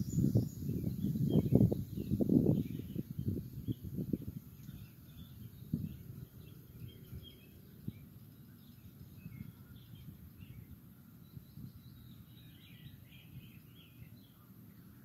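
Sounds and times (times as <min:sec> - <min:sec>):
wind buffeting microphone: 0:00.0 - 0:13.9
faint bird chirps: 0:00.0 - 0:15.0.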